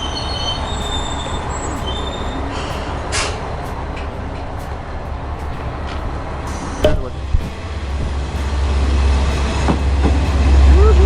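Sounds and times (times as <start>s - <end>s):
high wheel squeals: 0.0s - 11.0s
train rumbling: 0.0s - 11.0s.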